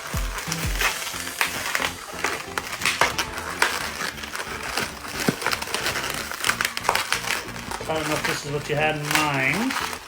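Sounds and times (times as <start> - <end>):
balloons squeaking and crinkling: 0.0 - 10.0.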